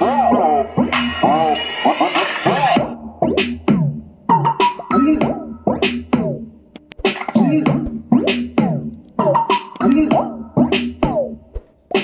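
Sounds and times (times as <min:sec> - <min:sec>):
choppy rhythmic music through speaker: 0:00.0 - 0:12.0.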